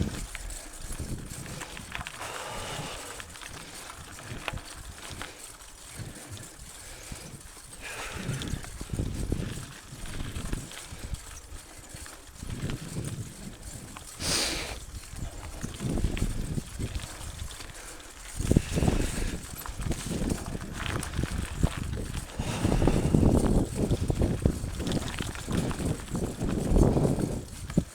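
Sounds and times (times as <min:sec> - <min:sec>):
bike rattling over rough trail: 0:00.0 - 0:27.9.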